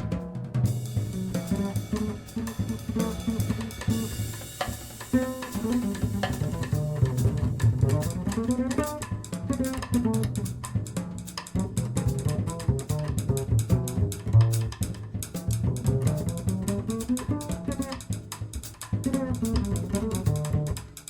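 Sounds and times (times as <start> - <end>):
double bass line: 0.0 - 21.0
percussion: 0.0 - 21.0.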